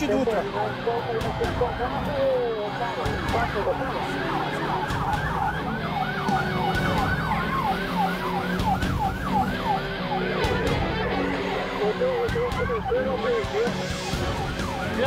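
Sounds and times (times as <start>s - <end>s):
engine and road noise: 0.0s - 15.0s
police siren yelping: 0.0s - 15.0s.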